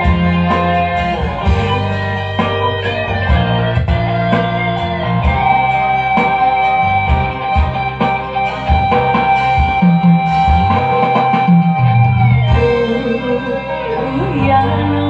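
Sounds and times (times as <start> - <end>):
bass: 0.0 - 15.0
drums: 0.0 - 15.0
guitar: 0.0 - 15.0.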